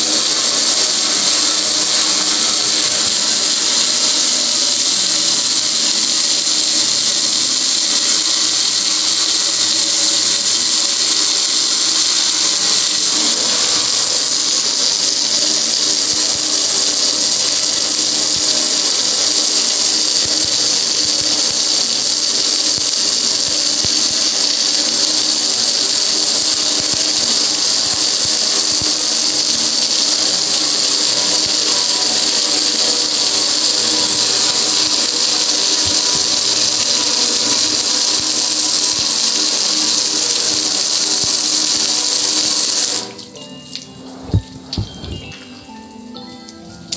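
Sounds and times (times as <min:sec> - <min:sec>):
hose spraying water jet: 0:00.0 - 0:46.9.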